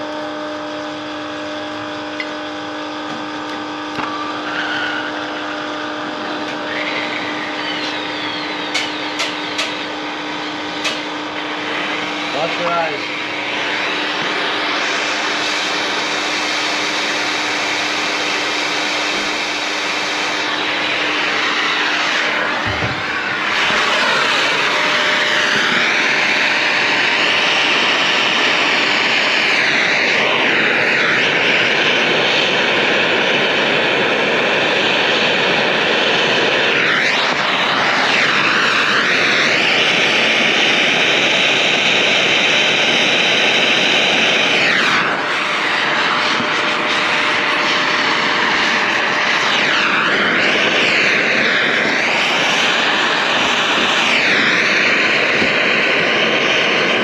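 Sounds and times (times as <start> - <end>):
electric motor running with hiss: 0.0 - 57.0.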